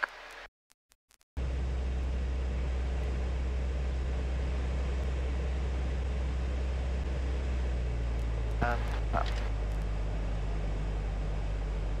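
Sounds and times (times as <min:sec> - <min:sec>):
light aircraft engine drone: 0:01.4 - 0:12.0.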